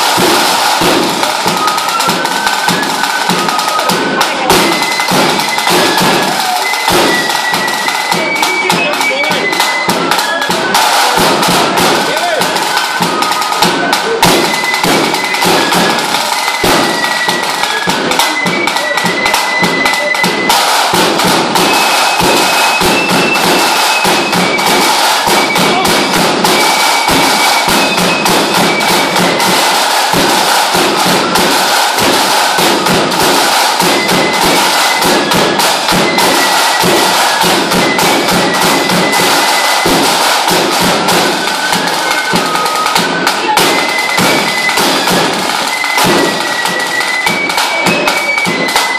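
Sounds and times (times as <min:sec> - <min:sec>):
drum rattle of rapid strokes: 0:00.0 - 0:48.9
high thin melody: 0:00.0 - 0:48.9.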